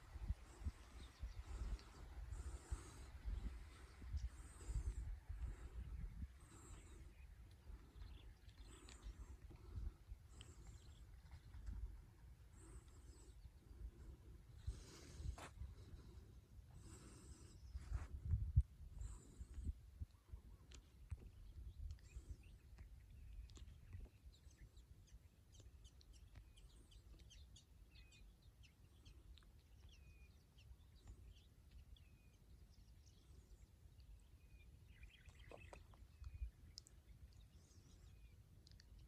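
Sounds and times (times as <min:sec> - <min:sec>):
birds chirping and calling: 0:00.2 - 0:18.1, 0:19.0 - 0:39.0.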